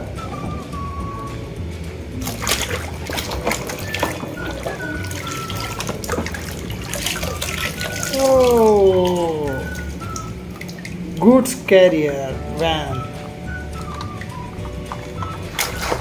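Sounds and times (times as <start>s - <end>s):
background music with whistling: 0.0s - 11.4s, 12.3s - 16.0s
water splashing and sloshing: 0.0s - 16.0s.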